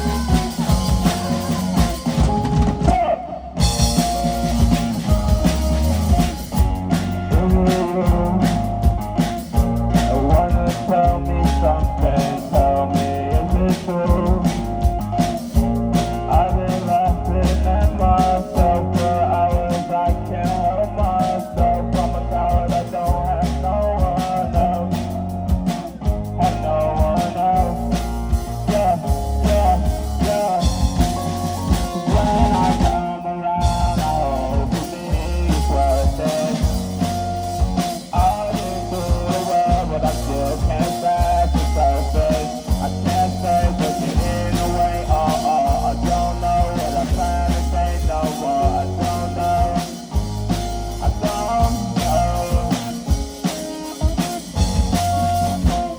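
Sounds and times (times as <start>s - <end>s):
rock band playing: 0.0s - 55.9s.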